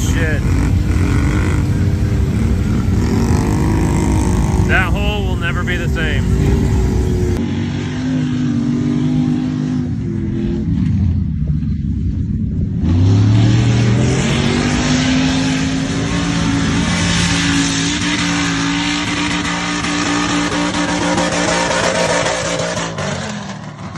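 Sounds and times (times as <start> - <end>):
truck engine revving: 0.0 - 11.0, 12.8 - 23.9.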